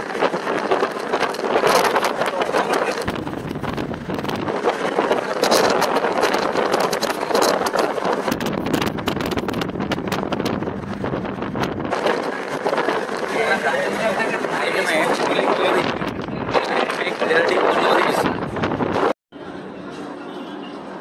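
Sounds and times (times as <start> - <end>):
wind buffeting microphone: 0.0 - 19.2
vehicle moving: 0.0 - 21.0.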